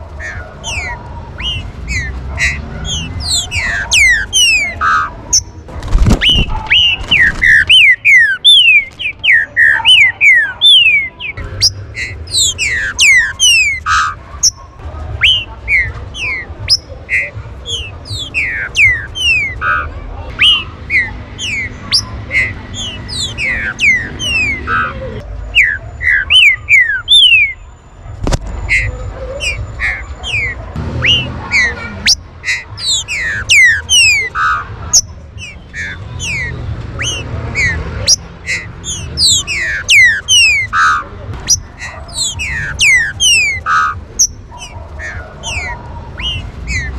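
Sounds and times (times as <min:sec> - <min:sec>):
birds calling with whistled notes: 0:00.0 - 0:46.9.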